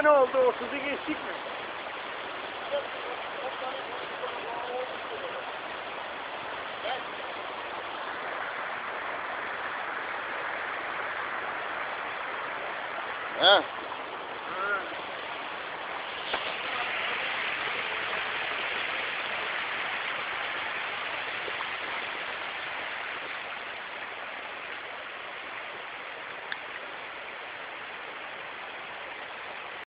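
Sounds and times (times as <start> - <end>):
stream rushing over rocks: 0.0 - 29.9.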